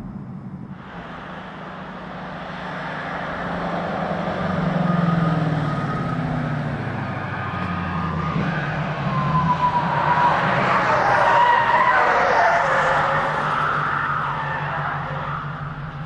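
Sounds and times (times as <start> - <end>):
car engine running at speed: 0.0 - 16.0.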